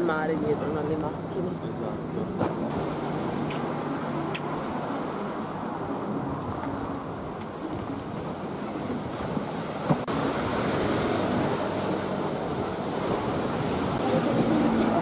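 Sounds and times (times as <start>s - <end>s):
sea surf washing on shore: 0.0s - 15.0s.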